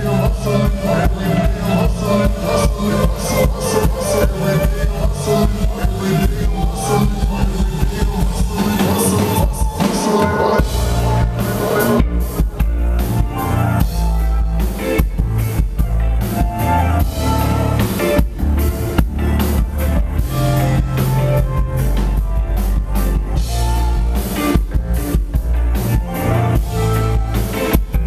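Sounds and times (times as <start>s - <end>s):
drum kit beat: 0.0s - 28.0s
heavy bass line: 0.0s - 28.0s
keyboards: 0.0s - 28.0s.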